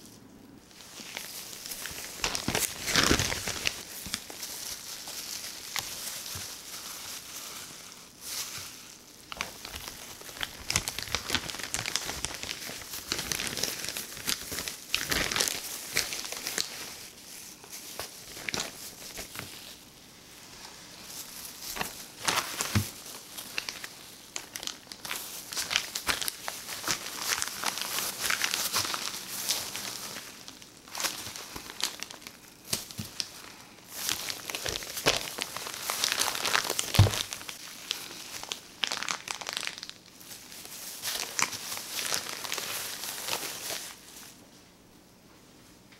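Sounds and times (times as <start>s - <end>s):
plastic bag and gloves crinkling: 0.0s - 44.6s.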